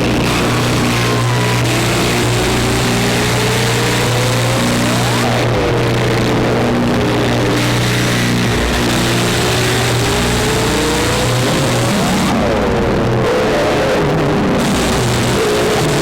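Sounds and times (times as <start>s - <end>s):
low buzzing synth drone: 0.0s - 16.0s.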